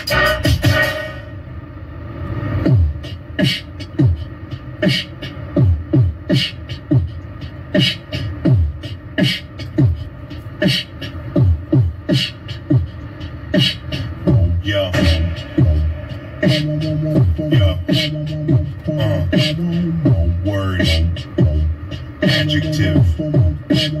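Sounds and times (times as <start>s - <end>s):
beatboxed hi-hat clicks: 2.5s - 24.0s
beatboxed snare sound: 2.5s - 24.0s
beatboxed kick sounds: 2.6s - 24.0s.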